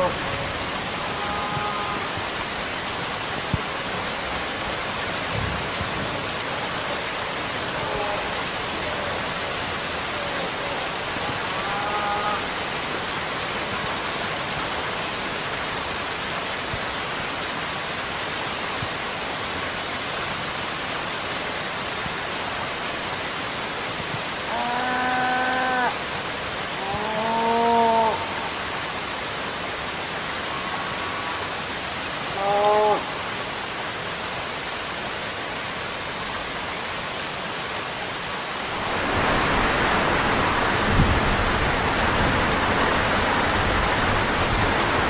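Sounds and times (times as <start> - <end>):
steady rainfall hiss: 0.0 - 45.0.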